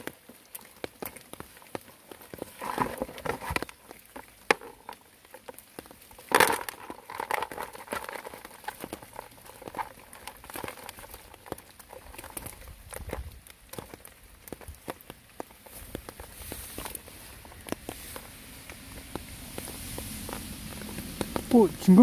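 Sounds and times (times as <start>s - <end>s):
netting rustling: 0.0s - 22.0s
small creatures tapping on plastic: 0.0s - 22.0s.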